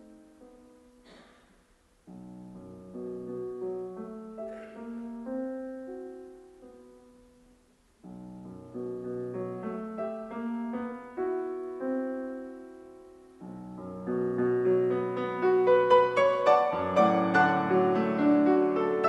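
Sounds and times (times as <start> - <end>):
solo piano: 0.0 - 1.2, 2.0 - 19.0.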